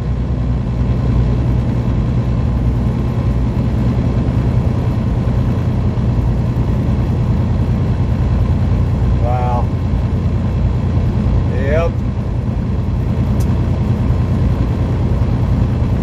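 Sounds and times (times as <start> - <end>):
road and tyre noise: 0.0 - 16.0
truck diesel engine droning: 0.0 - 16.0.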